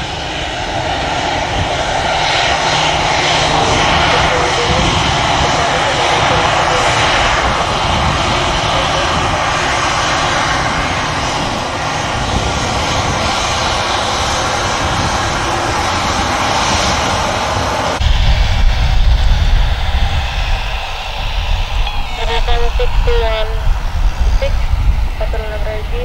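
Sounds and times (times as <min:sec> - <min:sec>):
deep rumble: 0:00.0 - 0:26.0
jet engines rushing: 0:00.0 - 0:26.0.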